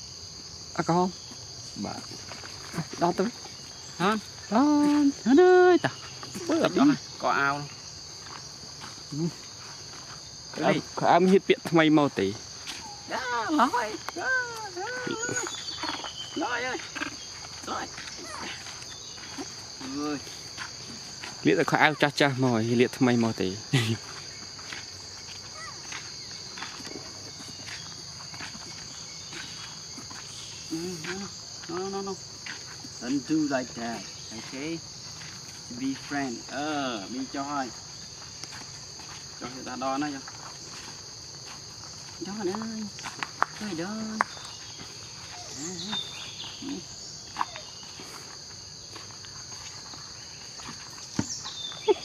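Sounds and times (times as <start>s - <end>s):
insect chorus drone: 0.0s - 52.0s
footsteps on dirt path: 0.4s - 52.0s.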